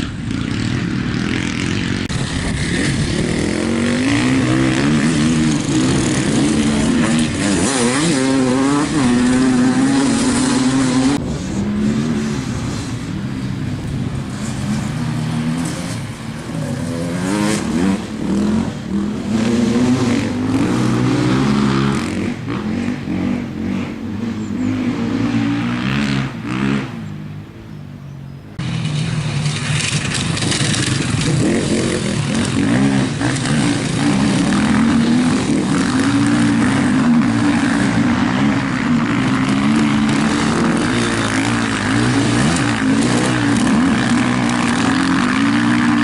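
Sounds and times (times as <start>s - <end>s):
off-road engines revving: 0.0s - 46.0s.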